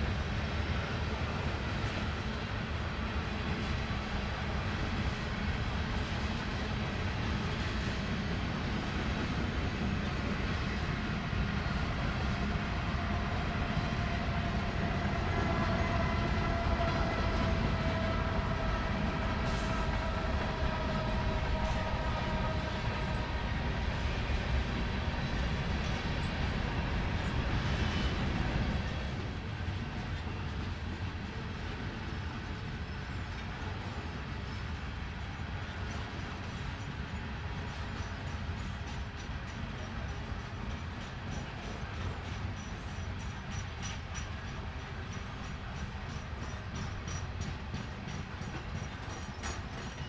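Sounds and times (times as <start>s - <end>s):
train wheels rolling on rails: 0.0s - 50.0s.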